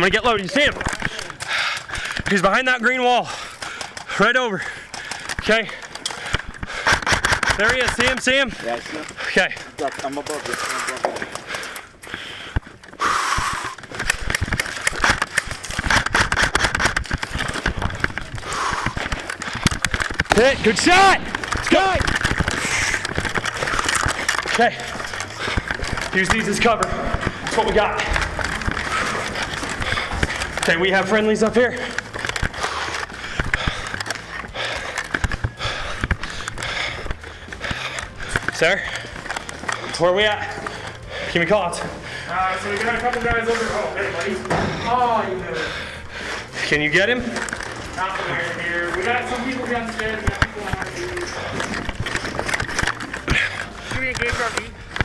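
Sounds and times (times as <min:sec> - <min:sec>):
footsteps: 0:00.0 - 0:55.0
gun and gear rattling: 0:00.0 - 0:55.0
heavy breathing: 0:00.0 - 0:55.0.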